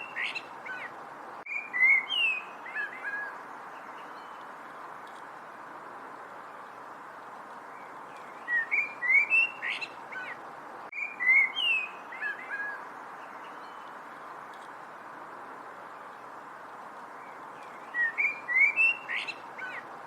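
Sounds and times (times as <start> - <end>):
songbird singing: 0.0 - 20.0
steady background hiss: 0.0 - 20.0.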